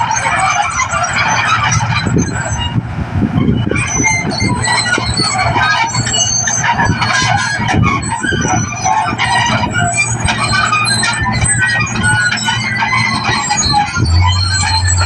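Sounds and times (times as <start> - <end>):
short high squeals: 0.0 - 2.8, 3.4 - 15.0
combine harvester engine drone: 0.0 - 15.0.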